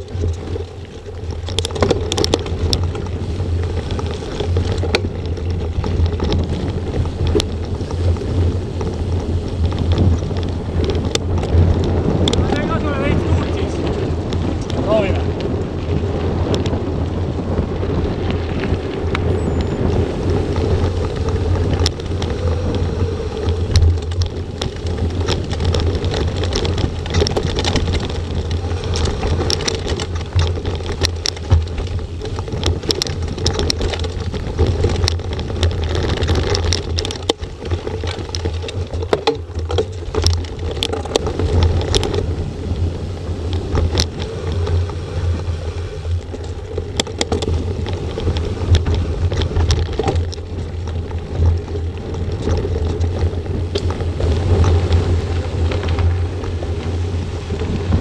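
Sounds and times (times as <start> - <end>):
bike clicks and rattles: 0.0 - 58.0
bike tyre noise on gravel: 0.0 - 58.0
wind buffeting microphone: 0.0 - 58.0.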